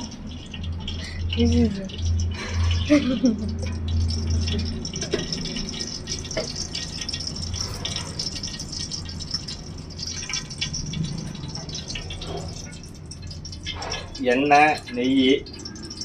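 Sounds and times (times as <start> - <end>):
cookware and utensils clinking: 0.0 - 16.0
steady low hum: 0.0 - 16.0.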